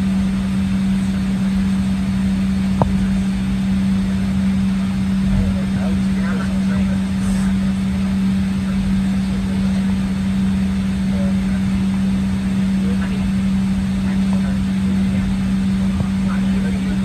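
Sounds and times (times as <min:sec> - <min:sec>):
airplane cabin hum: 0:00.0 - 0:17.0.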